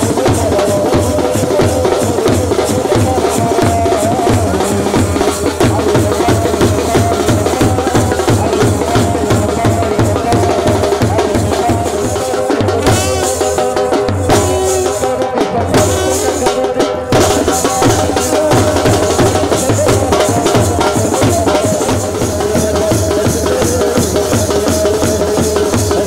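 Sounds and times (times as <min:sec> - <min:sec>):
dance music with fast drum beat: 0:00.0 - 0:26.0.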